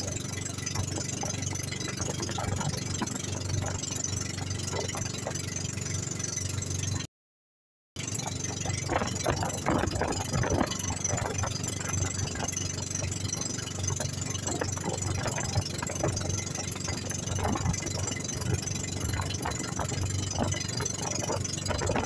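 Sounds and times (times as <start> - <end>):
boat engine running: 0.0 - 7.1, 8.0 - 22.0.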